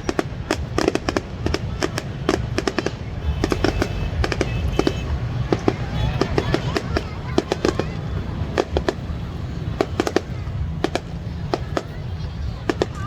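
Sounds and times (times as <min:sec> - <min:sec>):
fireworks banging and cracking: 0:00.0 - 0:13.0.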